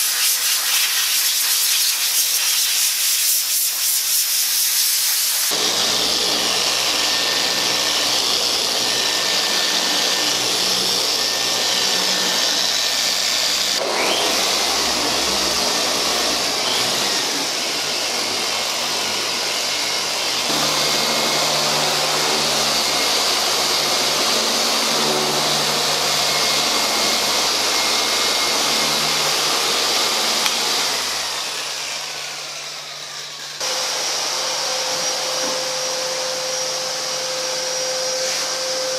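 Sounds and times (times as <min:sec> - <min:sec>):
orbital polisher whirring: 0:00.0 - 0:38.9.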